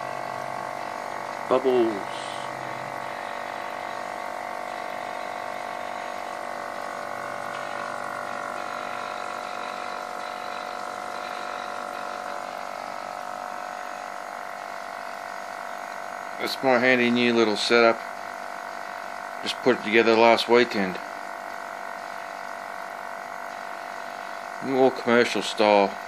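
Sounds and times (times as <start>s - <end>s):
electric pump whining: 0.0s - 26.0s.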